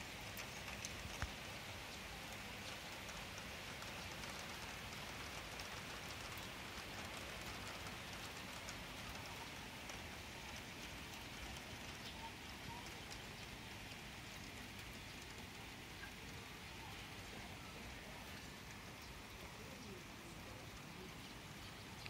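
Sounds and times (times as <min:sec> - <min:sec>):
drops ticking on surfaces: 0:00.0 - 0:21.6
faint steady rain: 0:00.0 - 0:22.0.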